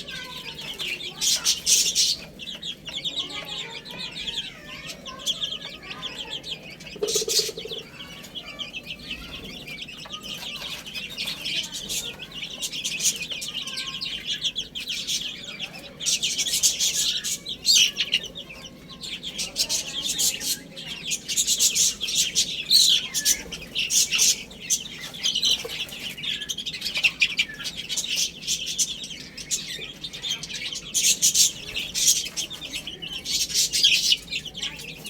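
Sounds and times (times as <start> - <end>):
baby chicks peeping: 0.0 - 35.0.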